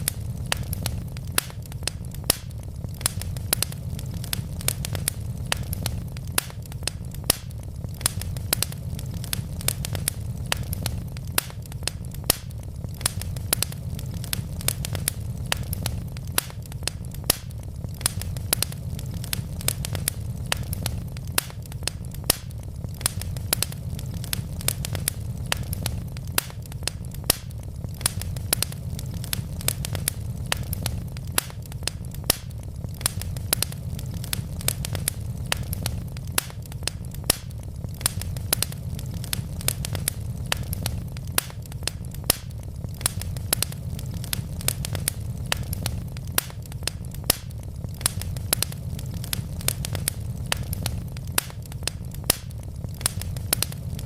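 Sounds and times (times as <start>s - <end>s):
fire rumbling: 0.0s - 54.0s
logs crackling and popping: 0.0s - 54.0s.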